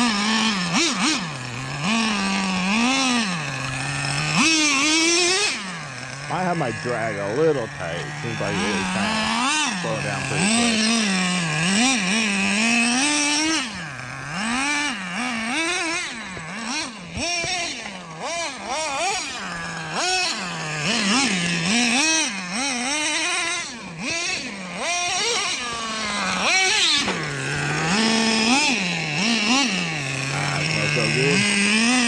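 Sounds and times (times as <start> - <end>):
small engine revving: 0.0 - 32.0.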